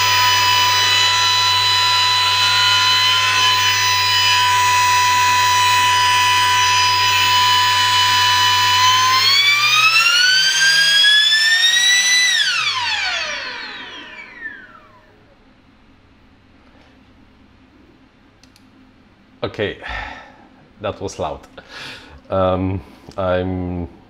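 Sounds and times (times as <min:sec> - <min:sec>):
fan motor high whine: 0:00.0 - 0:23.9.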